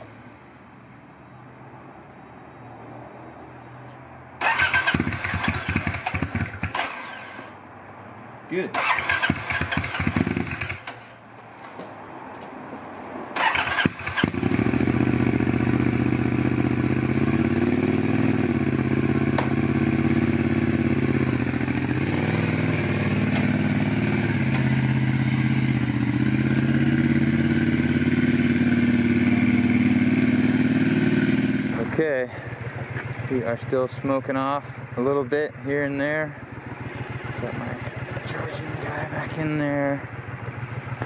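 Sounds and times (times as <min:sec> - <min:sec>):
motorcycle engine starting and idling: 0:04.4 - 0:07.6, 0:08.7 - 0:11.3, 0:13.3 - 0:41.0.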